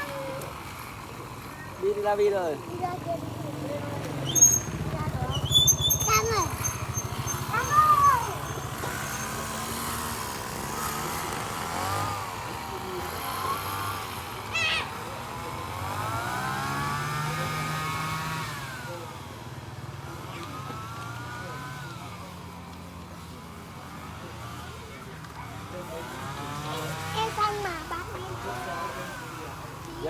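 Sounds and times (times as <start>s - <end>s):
small petrol engine revving: 0.0s - 30.0s.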